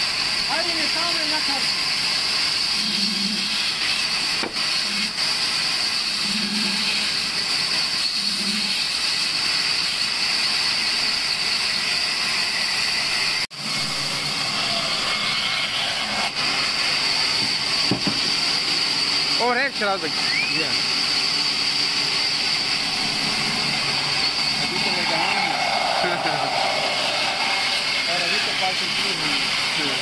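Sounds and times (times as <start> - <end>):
band saw cutting wood: 0.0 - 30.0.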